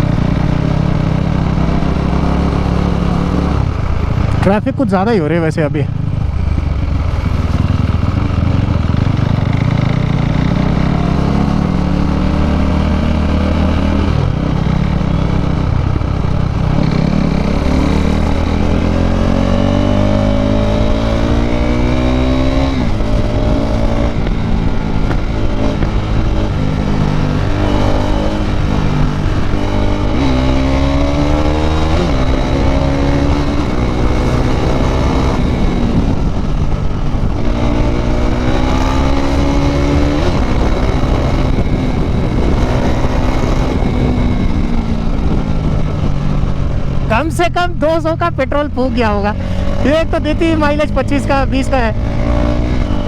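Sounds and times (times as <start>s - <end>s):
motorcycle engine accelerating hard: 0.0s - 53.0s.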